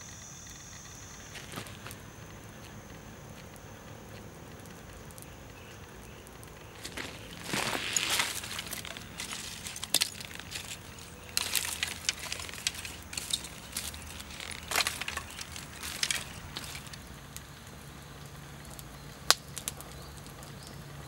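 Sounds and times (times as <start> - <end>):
crunching and cracking: 0.7 - 21.0.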